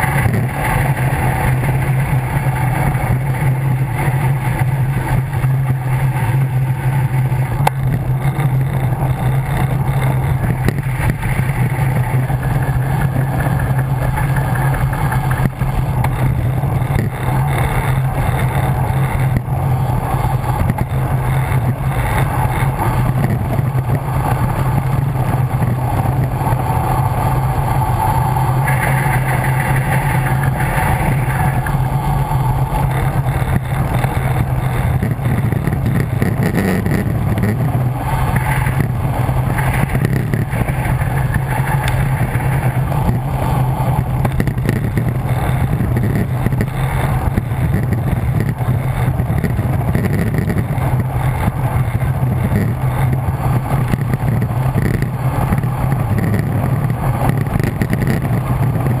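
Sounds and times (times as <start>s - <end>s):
low road rumble: 0.0s - 59.0s
wind rushing on microphone: 0.0s - 59.0s.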